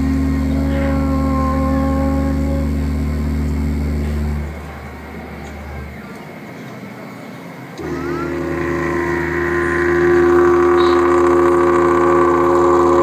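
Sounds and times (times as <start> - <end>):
didgeridoo drone: 0.0 - 6.7, 7.8 - 13.0.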